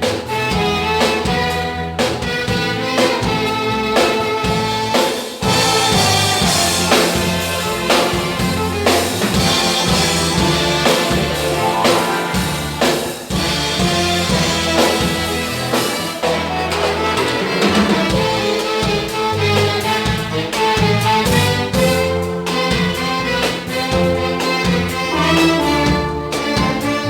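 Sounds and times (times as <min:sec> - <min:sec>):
band and orchestra playing: 0:00.0 - 0:27.0
drum kit beat: 0:00.0 - 0:27.0.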